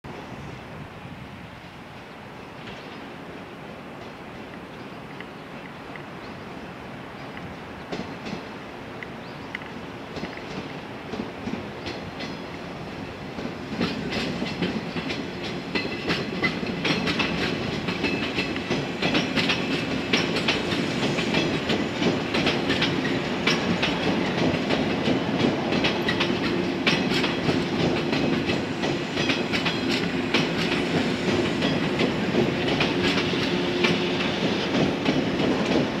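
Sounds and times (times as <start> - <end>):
train wheels clacking over rail joints: 2.6 - 3.1, 7.3 - 36.0.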